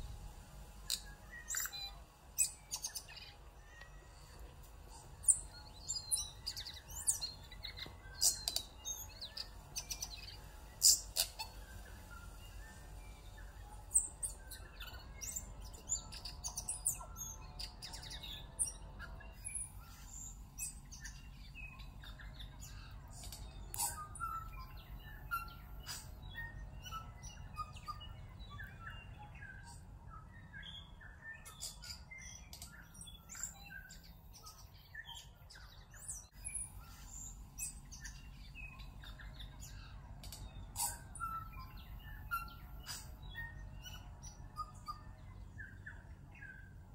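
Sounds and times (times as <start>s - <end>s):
songbirds chirping: 0.0s - 46.9s
steady low hum: 0.0s - 46.9s.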